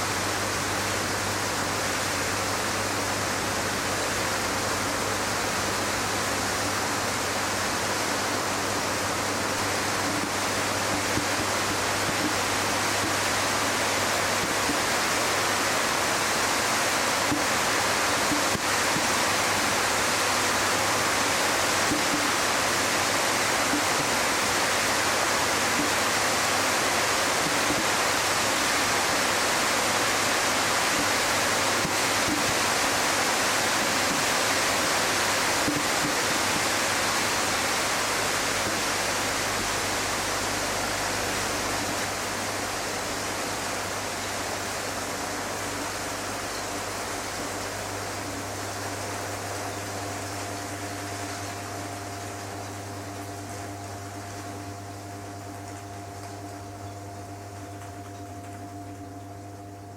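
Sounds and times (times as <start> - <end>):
steady rushing noise: 1.7 - 51.7.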